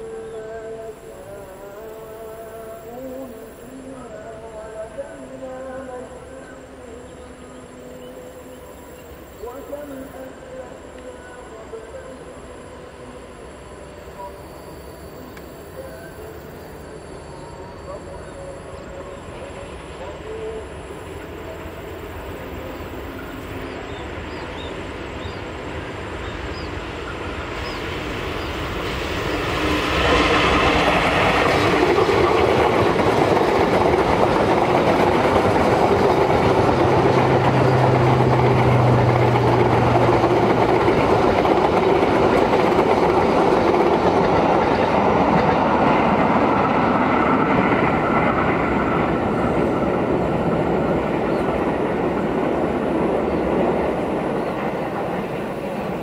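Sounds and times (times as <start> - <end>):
train wheels rumbling on rails: 0.0 - 56.0
locomotive passing: 6.0 - 56.0.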